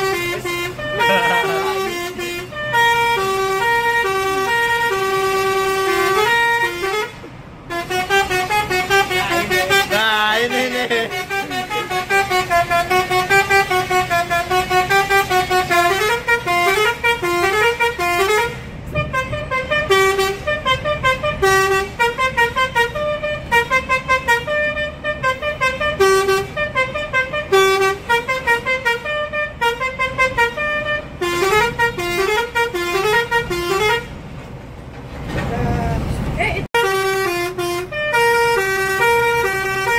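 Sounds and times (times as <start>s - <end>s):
bus air horn melody: 0.0s - 34.2s, 36.7s - 39.9s
bus road rumble: 0.0s - 39.9s.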